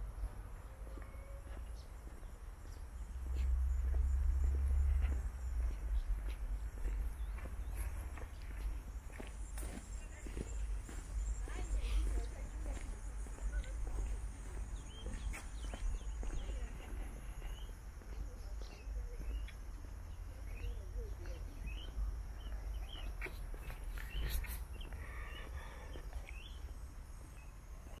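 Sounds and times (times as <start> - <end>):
small birds chirping: 0.0 - 28.0
steady low rumble: 2.0 - 28.0.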